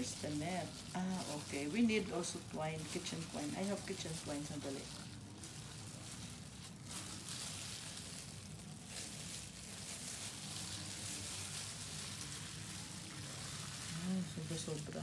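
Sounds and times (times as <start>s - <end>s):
crackly rustling and squishing: 0.0s - 15.0s.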